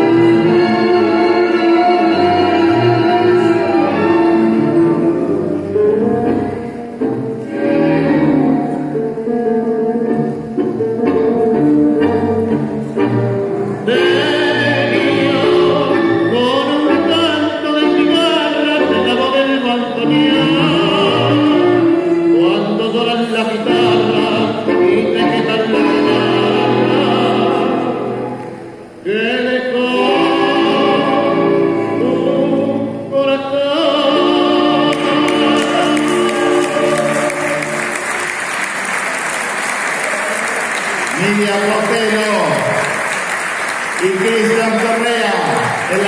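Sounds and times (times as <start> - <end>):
tango music with singer: 0.0 - 46.0.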